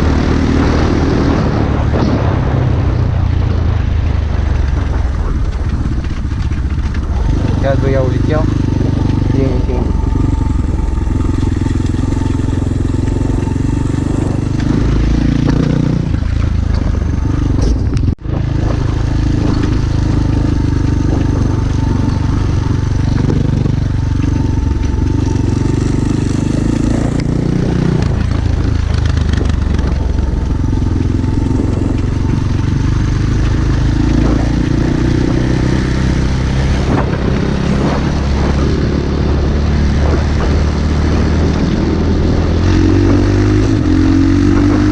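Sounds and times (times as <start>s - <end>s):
pit bike engine running: 0.0s - 44.9s.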